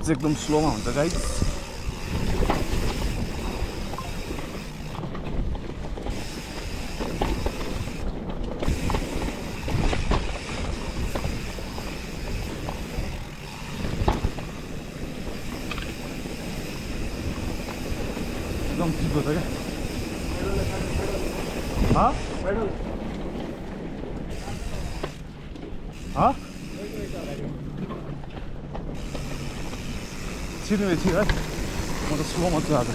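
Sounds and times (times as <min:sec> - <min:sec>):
mountain bike rumbling and rattling: 0:00.0 - 0:32.9.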